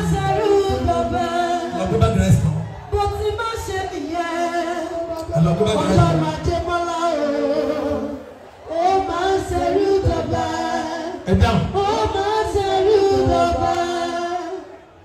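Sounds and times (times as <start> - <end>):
man singing into a microphone: 0.0 - 14.8
voices singing held notes: 0.0 - 15.0.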